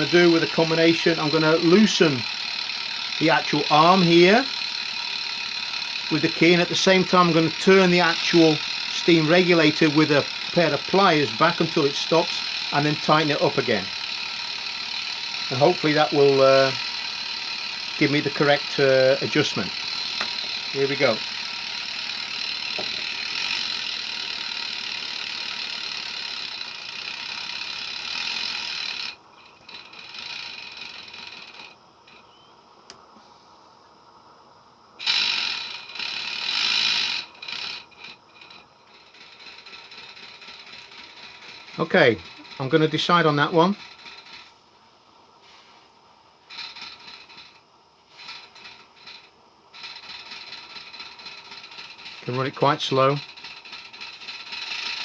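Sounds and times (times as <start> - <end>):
steam hissing: 0.0 - 29.1, 35.0 - 37.9, 38.9 - 44.6, 45.4 - 55.0
locomotive mechanical clatter: 0.0 - 32.5, 35.0 - 44.7, 45.4 - 55.0.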